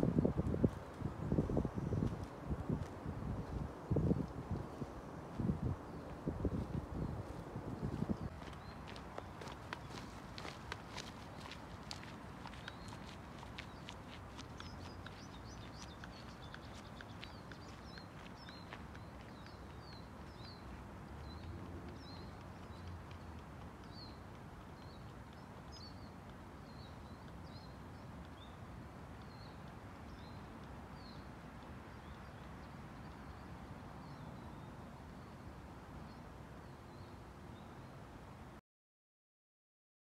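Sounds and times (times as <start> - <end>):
small birds chirping: 0.2 - 35.5.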